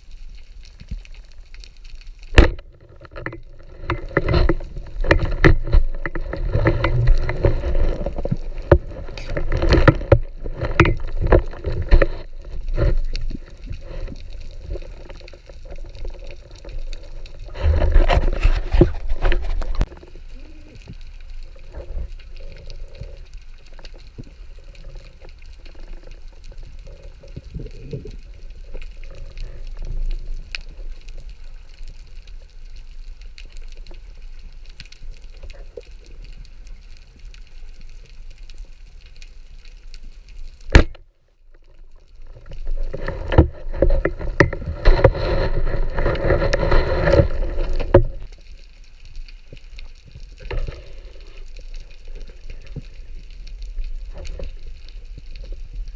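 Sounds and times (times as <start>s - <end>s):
muffled underwater rumble: 0.0s - 55.9s.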